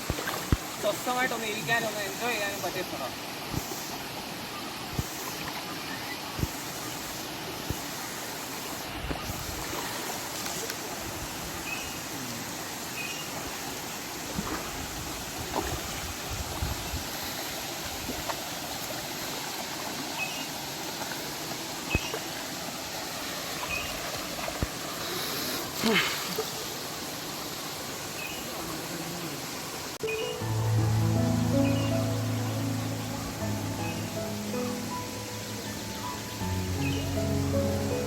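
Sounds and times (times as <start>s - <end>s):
water flowing over rocks: 0.0s - 38.0s.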